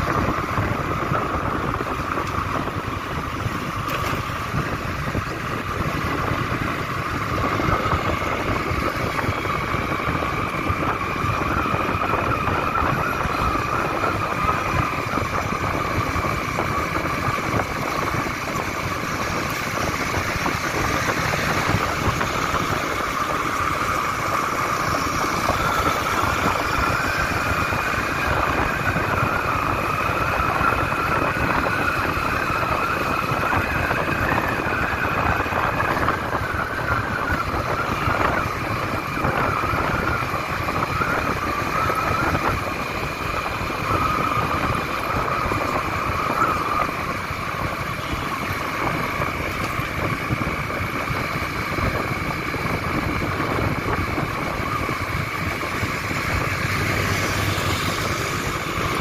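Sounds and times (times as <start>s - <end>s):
high whine: 0.0s - 59.0s
motorbike engine: 0.0s - 59.0s
wind noise: 0.0s - 59.0s.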